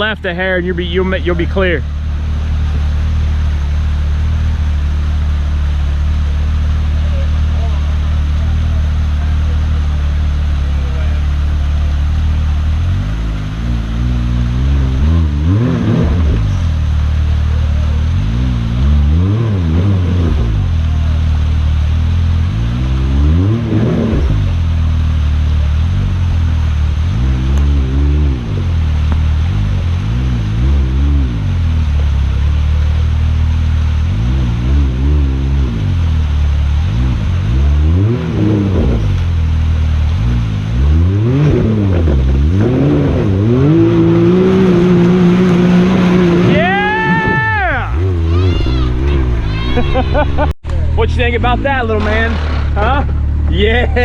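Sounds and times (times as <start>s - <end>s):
engine idling and revving: 0.0s - 54.0s.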